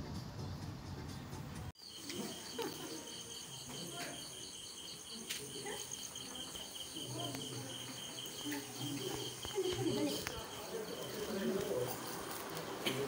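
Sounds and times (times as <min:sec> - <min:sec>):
crickets chirping: 0:01.8 - 0:13.0.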